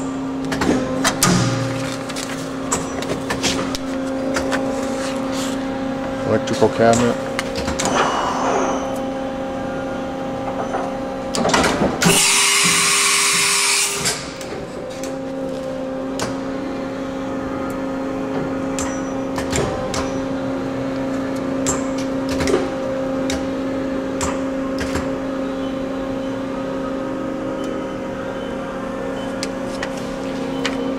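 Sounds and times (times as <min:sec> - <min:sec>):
steady machine hum: 0:00.0 - 0:30.9.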